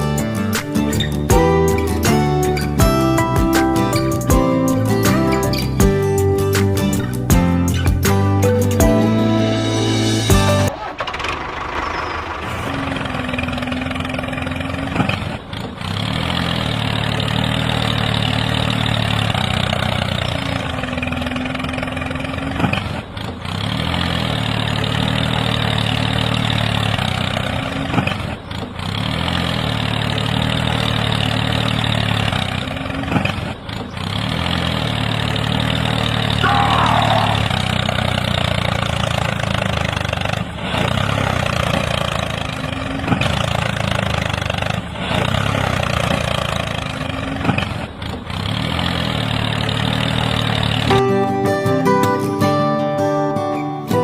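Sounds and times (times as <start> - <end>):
tractor engine idling: 0.0 - 51.2.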